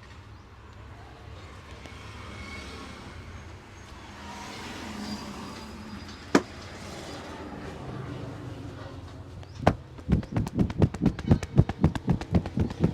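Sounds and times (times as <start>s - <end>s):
roadside traffic rumble: 0.1s - 12.9s.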